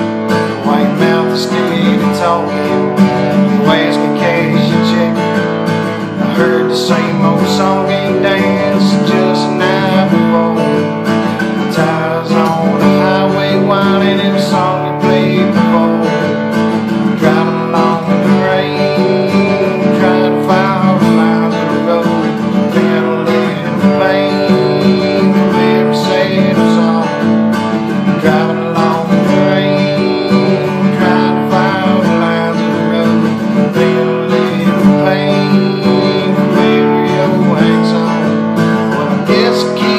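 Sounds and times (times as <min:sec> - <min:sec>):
instrumental guitar playing: 0:00.0 - 0:39.9.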